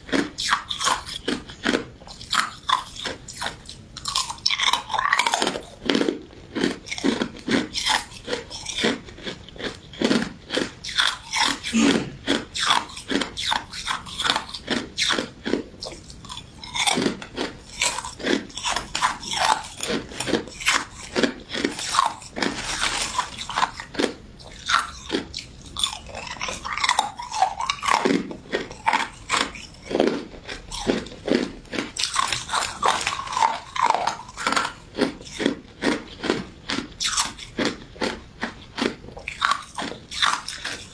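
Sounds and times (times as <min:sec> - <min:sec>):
person chewing crunchy dessert: 0:00.0 - 0:40.9.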